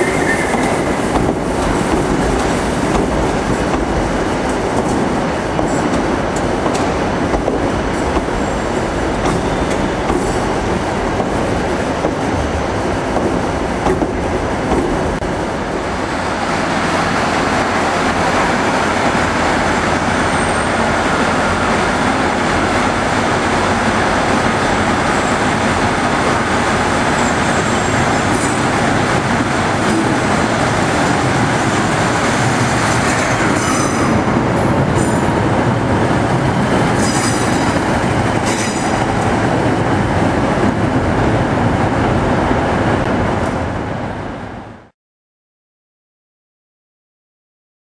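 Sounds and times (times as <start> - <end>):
trains rumbling over rails: 0.0 - 44.9.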